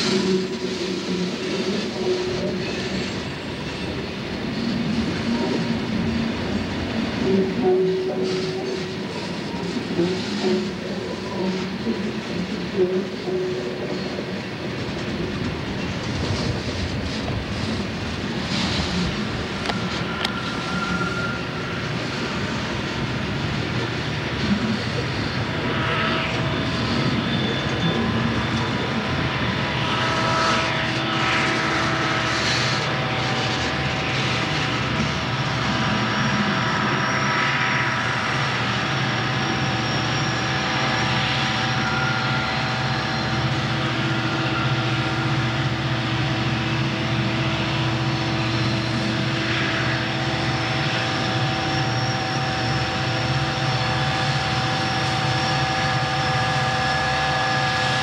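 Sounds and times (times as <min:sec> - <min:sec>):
diesel locomotive engines droning: 0:00.0 - 0:58.0.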